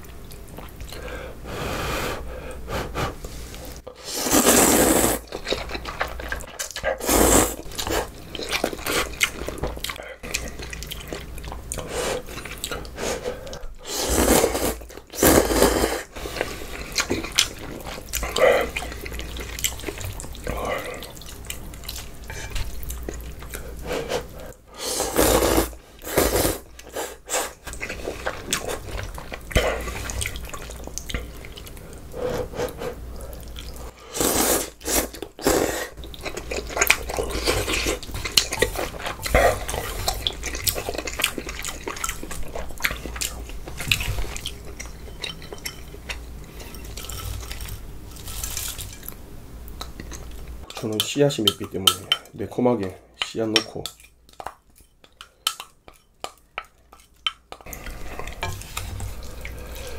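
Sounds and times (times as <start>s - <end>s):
wet slurping and chewing: 3.2s - 49.2s, 55.1s - 59.9s.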